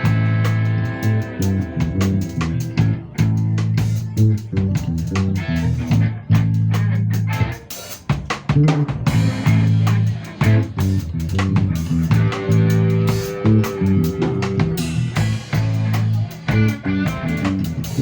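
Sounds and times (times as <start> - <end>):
bass and guitar: 0.0 - 18.0
drum kit beat: 0.0 - 18.0.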